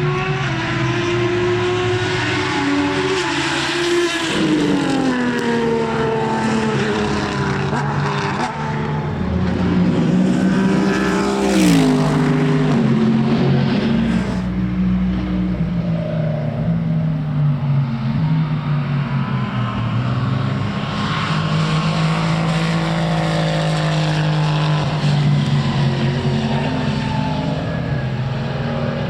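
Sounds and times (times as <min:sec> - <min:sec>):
racing car engine: 0:00.0 - 0:29.0.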